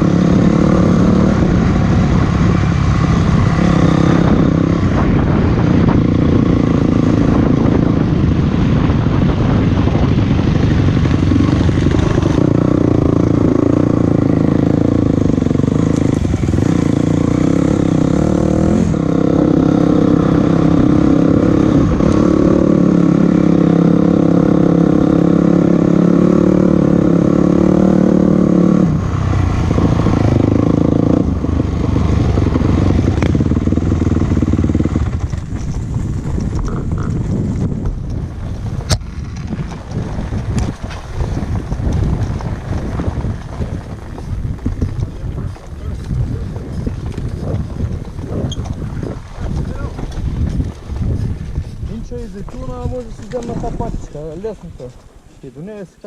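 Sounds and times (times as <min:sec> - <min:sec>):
motorcycle engine revving: 0:00.0 - 0:54.8.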